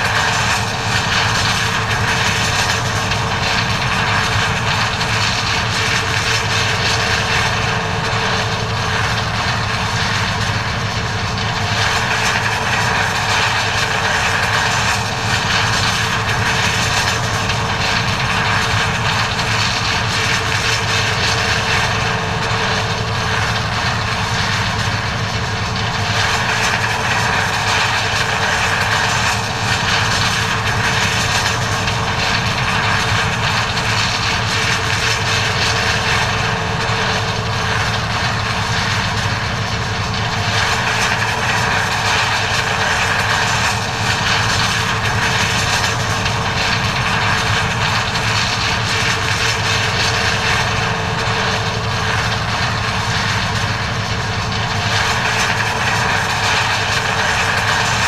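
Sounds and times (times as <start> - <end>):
steady machine whine: 0.0 - 58.0.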